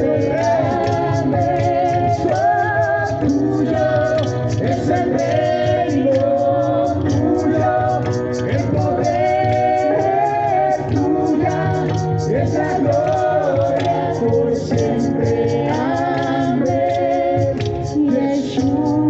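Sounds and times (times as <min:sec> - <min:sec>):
band playing steady beat: 0:00.0 - 0:19.0
people singing: 0:00.0 - 0:19.0.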